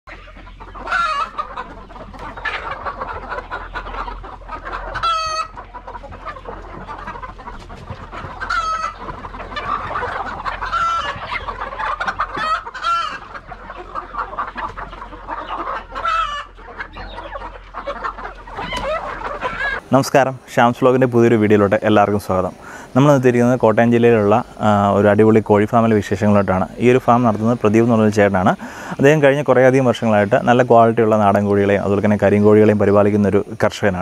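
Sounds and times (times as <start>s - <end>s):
chickens clucking: 0.1s - 34.0s.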